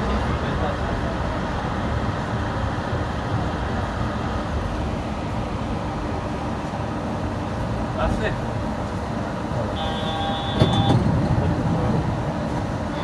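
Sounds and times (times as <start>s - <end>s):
train tyres rumbling on guideway: 0.0s - 13.0s.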